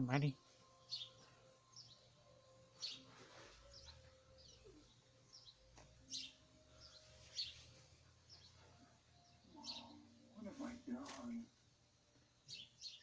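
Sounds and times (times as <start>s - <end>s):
faint songbird chirping: 0.0s - 13.0s.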